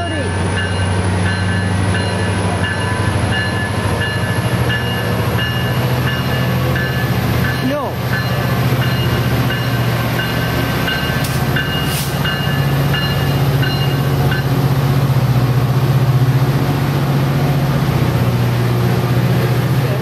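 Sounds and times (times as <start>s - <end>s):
train rolling rumble: 0.0s - 20.0s.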